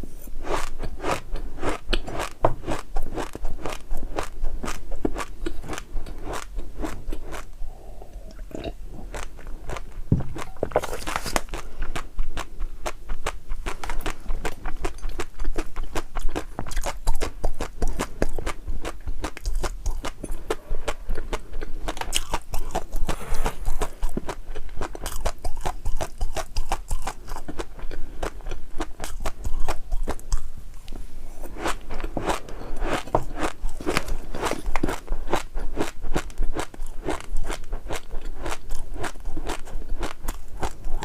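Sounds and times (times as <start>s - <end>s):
chewing crunchy food: 0.5s - 41.0s.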